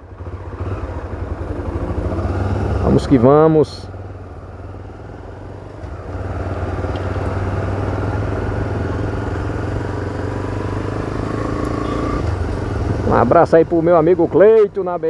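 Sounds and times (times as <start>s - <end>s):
vehicle engine accelerating: 0.0s - 14.5s
road noise: 0.0s - 15.0s.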